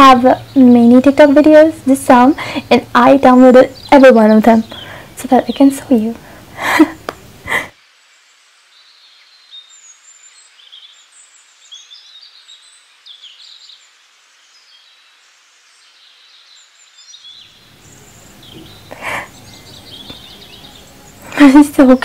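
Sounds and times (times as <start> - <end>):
low background noise: 0.0 - 22.0
small birds chirping and twittering: 0.0 - 22.0
soft hiss: 0.0 - 22.0.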